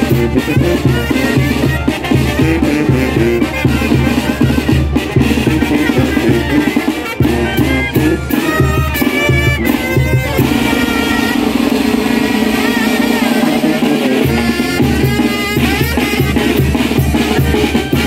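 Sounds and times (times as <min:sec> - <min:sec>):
brass band with drums: 0:00.0 - 0:18.0.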